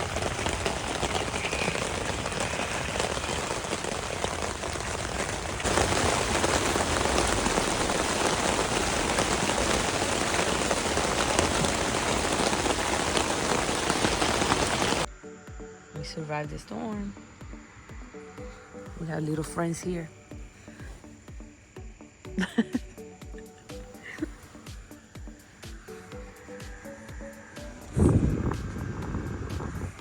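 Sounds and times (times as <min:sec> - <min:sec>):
heavy rain pelting a tent: 0:00.0 - 0:15.1, 0:19.9 - 0:21.4, 0:22.4 - 0:30.0.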